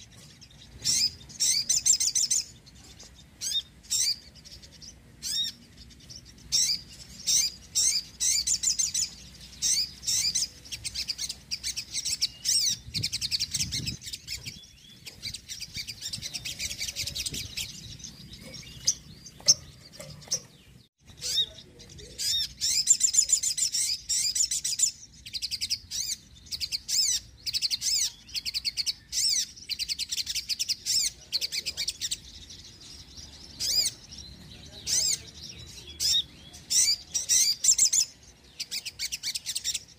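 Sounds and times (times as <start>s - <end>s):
bird trilling chirps: 0.0s - 39.9s.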